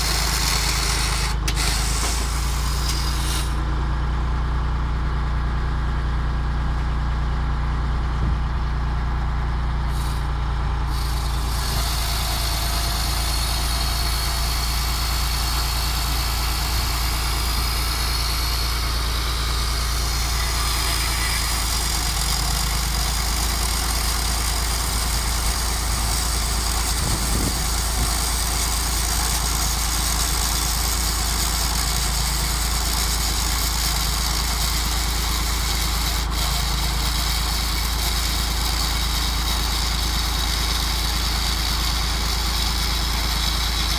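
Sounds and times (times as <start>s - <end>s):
saw chain cutting logs: 0.0s - 3.6s, 10.9s - 43.9s
tractor diesel engine running: 0.0s - 43.9s.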